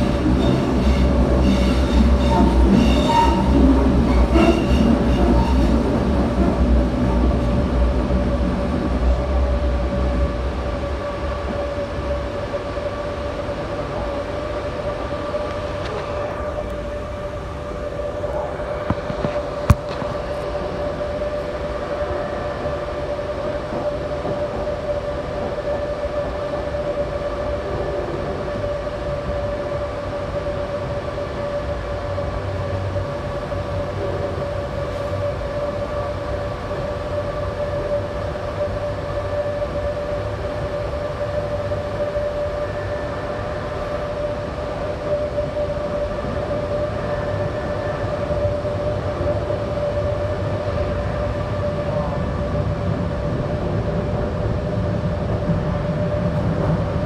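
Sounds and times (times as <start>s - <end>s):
steady train whine: 0.0s - 57.0s
train wheels rumbling on rails: 0.0s - 57.0s.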